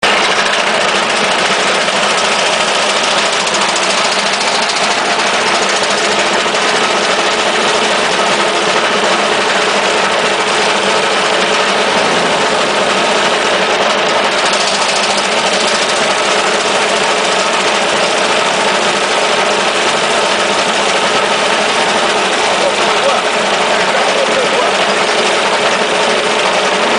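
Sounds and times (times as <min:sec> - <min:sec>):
wood chipper engine running: 0:00.0 - 0:26.9.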